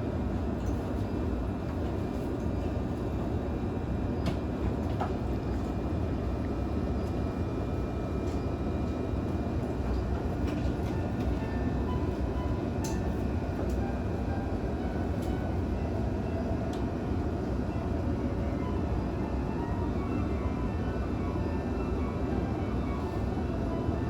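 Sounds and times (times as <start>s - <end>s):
electric train car rumble: 0.0s - 24.0s.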